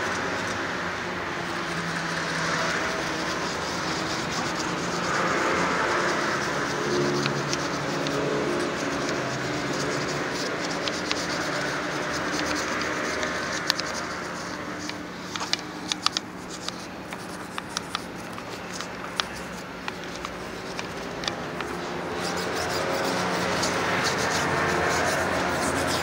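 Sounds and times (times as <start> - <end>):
brush clicking and scratching: 0.0 - 0.8, 1.4 - 26.0
steady rushing noise: 0.0 - 26.0.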